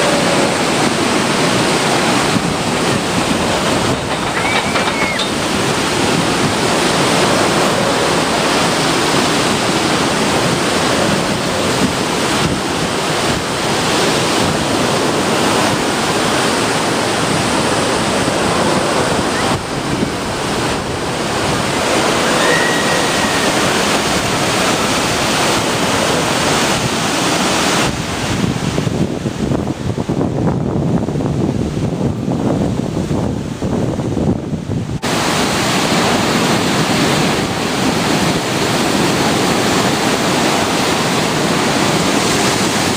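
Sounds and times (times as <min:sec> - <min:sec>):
ocean surf washing onto beach: 0:00.0 - 0:42.9
wind buffeting microphone: 0:00.0 - 0:42.9.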